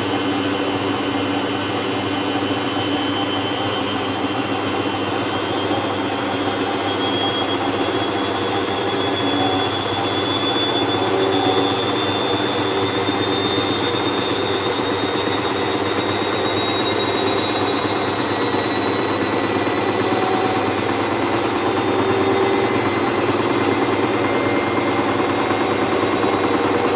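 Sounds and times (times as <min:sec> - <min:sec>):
high motor whine: 0:00.0 - 0:26.9
washing machine running: 0:00.0 - 0:26.9.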